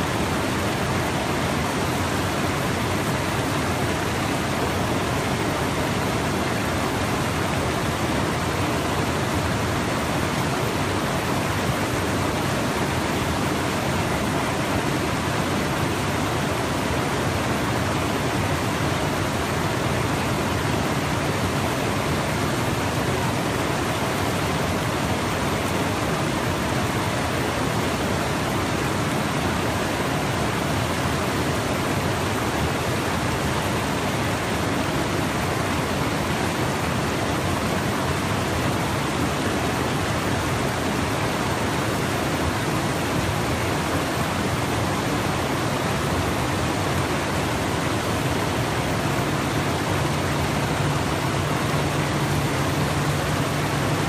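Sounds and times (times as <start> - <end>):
water rushing over rock ledges: 0.0 - 54.0.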